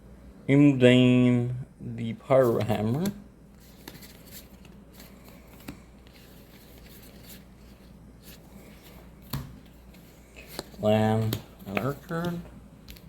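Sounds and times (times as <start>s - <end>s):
cards rustling and flicking: 2.3s - 13.0s.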